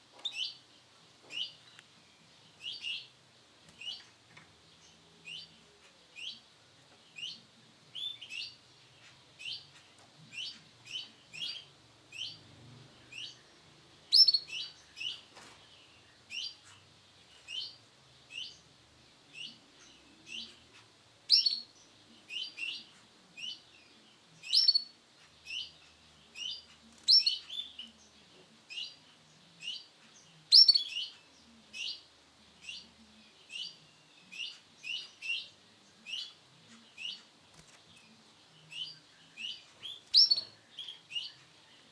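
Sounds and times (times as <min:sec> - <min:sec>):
canary chirping: 0:00.1 - 0:41.9.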